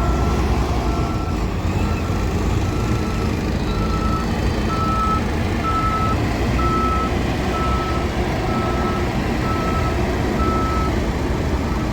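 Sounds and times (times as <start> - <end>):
reversing alarm beeping: 0.0 - 11.0
diesel engine running: 0.0 - 11.9.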